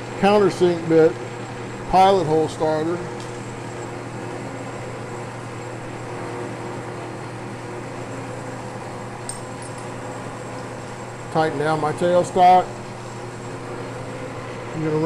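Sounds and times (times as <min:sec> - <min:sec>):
metal lathe motor humming: 0:00.0 - 0:15.0.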